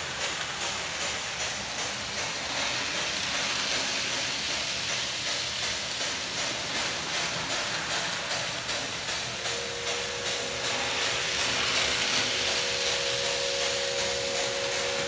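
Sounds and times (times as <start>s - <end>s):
light regular clicking of wheels: 0.0s - 15.0s
model train motors whirring: 0.0s - 15.0s.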